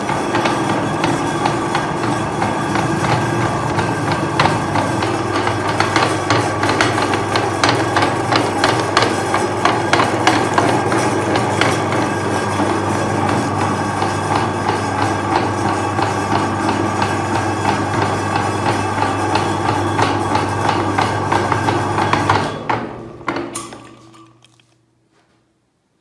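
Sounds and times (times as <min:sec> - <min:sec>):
electric meat grinder humming: 0:00.0 - 0:23.3.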